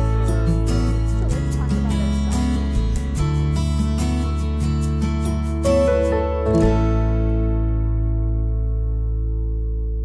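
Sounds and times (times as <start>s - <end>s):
strummed acoustic guitar: 0.0s - 8.8s
steady bass line: 0.0s - 10.0s.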